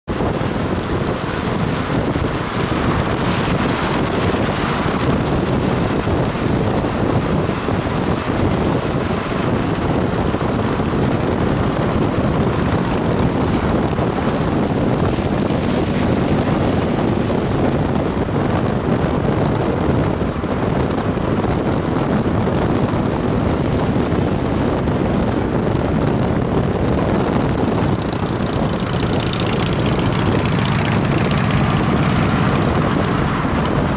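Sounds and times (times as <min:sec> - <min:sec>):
tyres and wind rushing: 0:00.0 - 0:33.9
motorcycle engines droning: 0:00.1 - 0:33.9.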